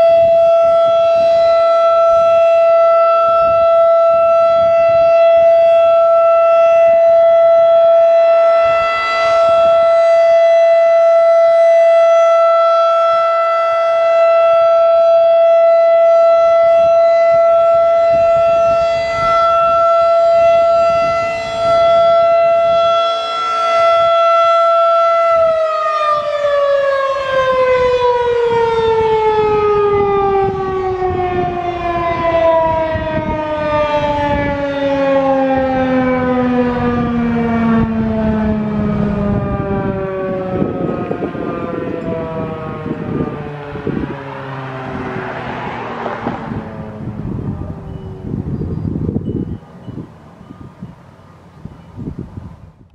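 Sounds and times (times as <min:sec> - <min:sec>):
rotating siren wailing: 0:00.0 - 0:52.8.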